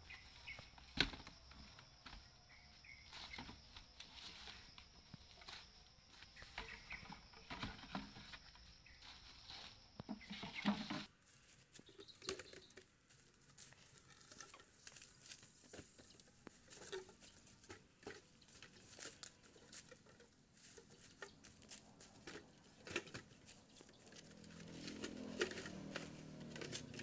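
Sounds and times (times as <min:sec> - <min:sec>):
bamboo knocking and clattering: 0:00.0 - 0:11.1, 0:11.8 - 0:12.9, 0:14.2 - 0:27.0
leaves rustling: 0:00.0 - 0:27.0.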